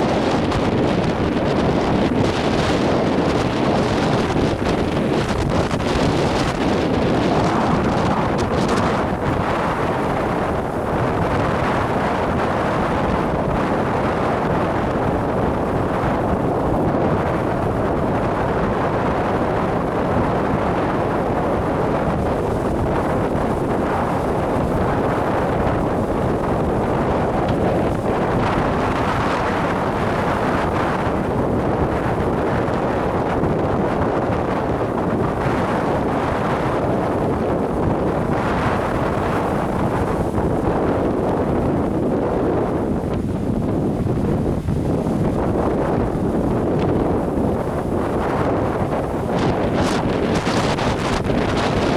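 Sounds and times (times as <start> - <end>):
waves washing: 0.0 - 33.8, 34.7 - 51.9
wind buffeting microphone: 0.0 - 51.9.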